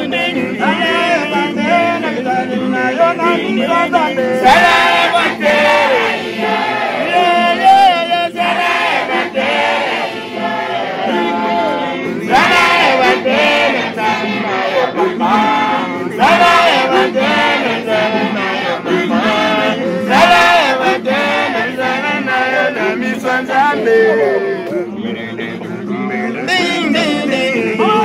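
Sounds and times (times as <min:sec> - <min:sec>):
group singing a hymn: 0:00.0 - 0:28.0.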